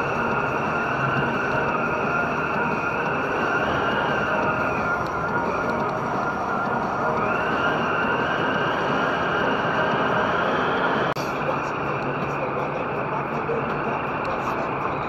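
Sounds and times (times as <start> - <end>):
high drone: 0.0 - 15.0
road and tyre noise inside car: 0.0 - 15.0.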